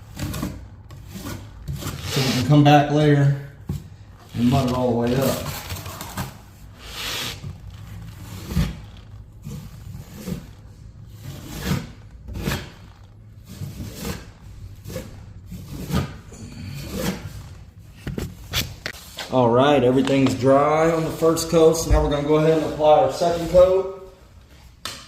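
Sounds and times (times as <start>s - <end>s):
taping knife scraping wall: 0.0s - 3.1s, 3.7s - 19.2s, 20.8s - 24.1s.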